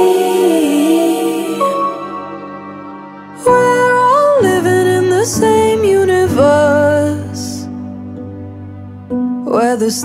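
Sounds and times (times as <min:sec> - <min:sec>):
person singing a ballad: 0:00.0 - 0:10.0
soft backing music: 0:00.0 - 0:10.0.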